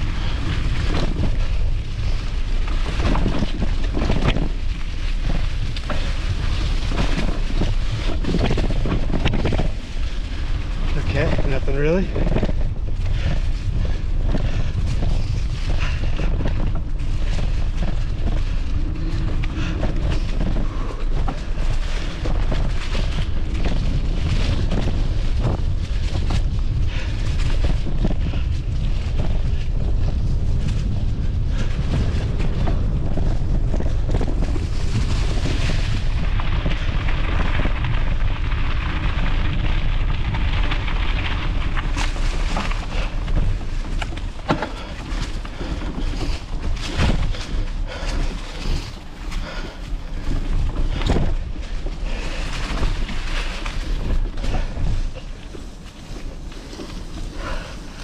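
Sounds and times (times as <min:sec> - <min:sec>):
bike clicks and rattles: 0:00.0 - 0:58.0
wind buffeting microphone: 0:00.0 - 0:58.0.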